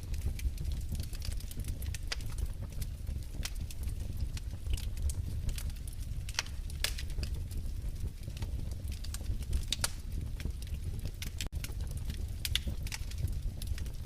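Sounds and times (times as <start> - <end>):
fire pops and snaps: 0.0 - 14.0
low rumble of flames: 0.0 - 14.0.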